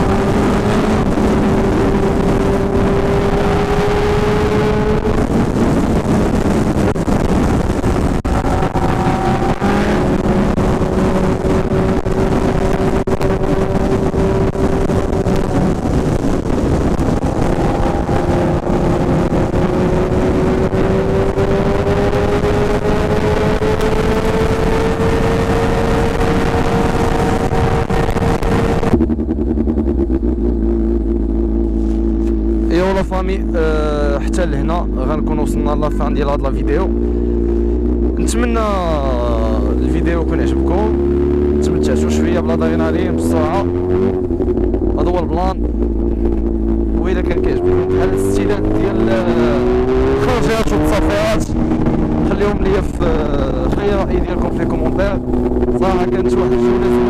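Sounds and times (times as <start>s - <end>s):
motorcycle engine droning: 0.0s - 57.0s
wind rush on microphone: 0.0s - 57.0s.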